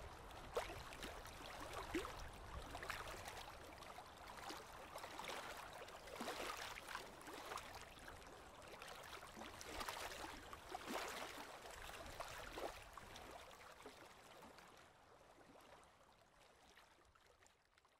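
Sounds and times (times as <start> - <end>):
small waves lapping on sandy shore: 0.0 - 15.2.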